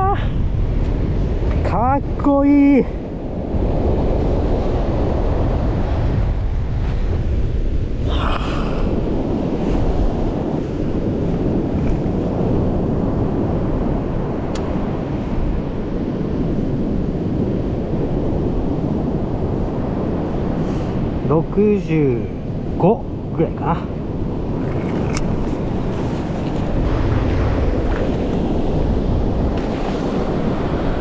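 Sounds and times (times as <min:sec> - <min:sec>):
waves breaking on beach: 0:00.0 - 0:31.0
wind buffeting microphone: 0:00.0 - 0:31.0.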